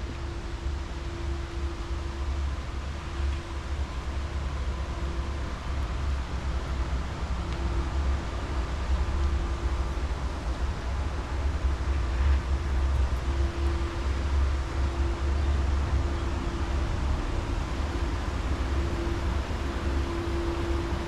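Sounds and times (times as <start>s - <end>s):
steady hum: 0.0s - 21.0s
wind rumble on microphone: 0.0s - 21.0s.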